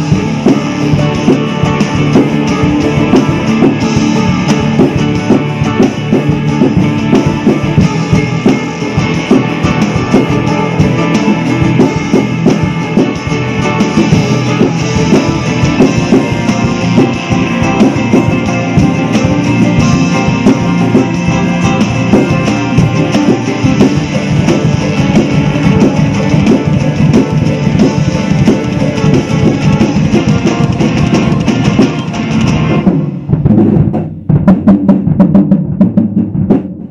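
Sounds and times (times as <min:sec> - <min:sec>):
rock backing track with guitar: 0:00.0 - 0:35.5
drum kit played hard: 0:00.0 - 0:36.9.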